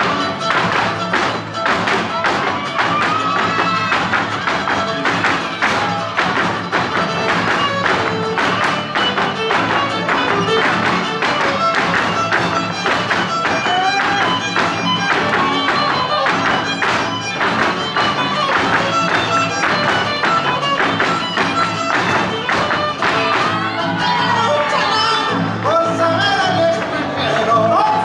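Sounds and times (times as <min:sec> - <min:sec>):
dance footwork tapping on stage: 0:00.0 - 0:24.9
violin melody: 0:00.0 - 0:26.7
strummed guitars: 0:00.0 - 0:28.0.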